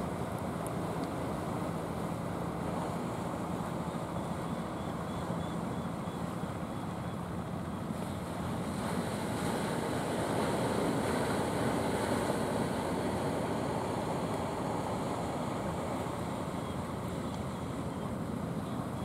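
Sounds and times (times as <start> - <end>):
faint boat engine hum: 0.0 - 19.0
surf washing on shore: 0.0 - 19.0.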